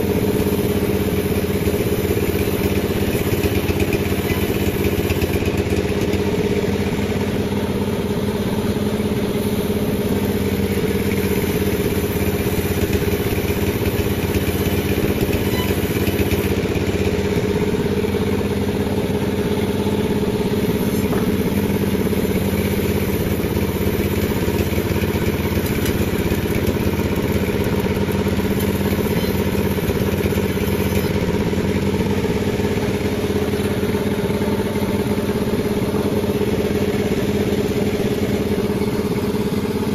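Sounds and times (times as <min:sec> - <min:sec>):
sawmill humming: 0:00.0 - 0:39.9.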